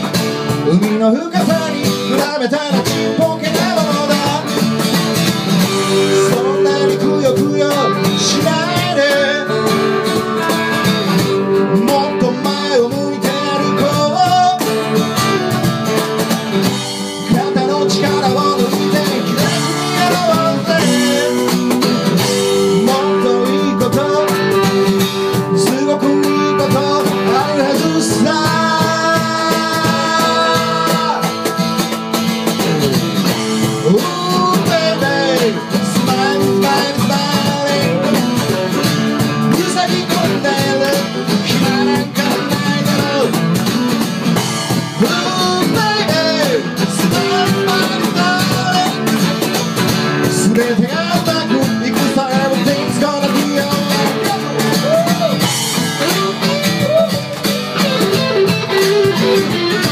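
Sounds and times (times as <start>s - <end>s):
person singing: 0.0s - 4.9s, 5.5s - 15.6s, 17.1s - 43.5s, 44.8s - 59.9s
hand percussion: 0.0s - 59.9s
strummed acoustic guitar: 0.0s - 59.9s.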